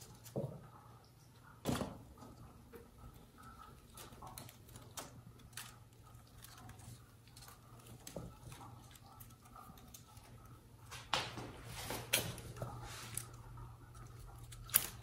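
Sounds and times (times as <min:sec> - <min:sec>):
paws tapping on wicker: 0:02.1 - 0:15.0.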